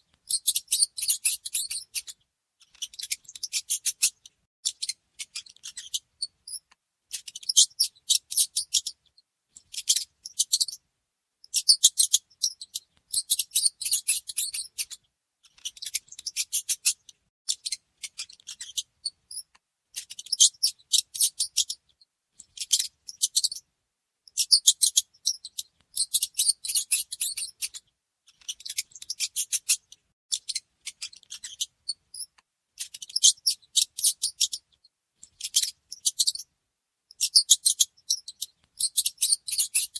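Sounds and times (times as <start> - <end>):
mice squeaking and chittering: 0.2 - 10.8, 11.5 - 23.6, 24.3 - 36.5, 37.1 - 39.9.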